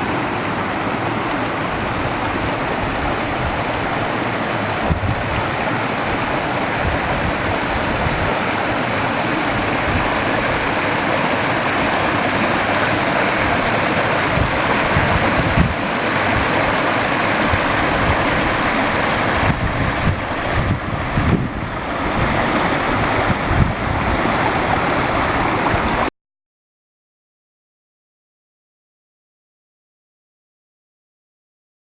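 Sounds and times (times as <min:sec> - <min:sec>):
sea water washing over rocks: 0:00.0 - 0:26.1.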